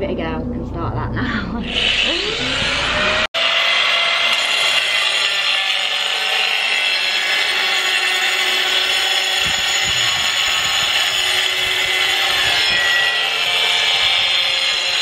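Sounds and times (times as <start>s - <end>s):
power tool whining: 1.6s - 15.0s.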